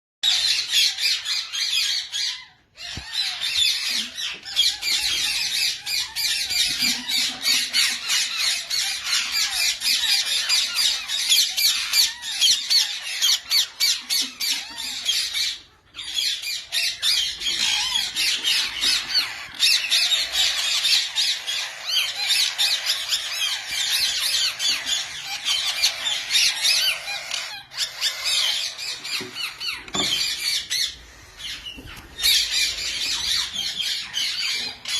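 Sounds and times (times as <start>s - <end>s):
parakeets squawking and chattering: 0.2s - 34.9s.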